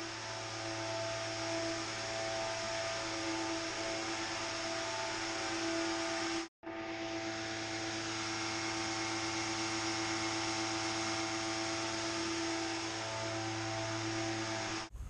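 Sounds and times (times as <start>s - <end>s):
machine motor hissing and humming: 0.0s - 14.9s.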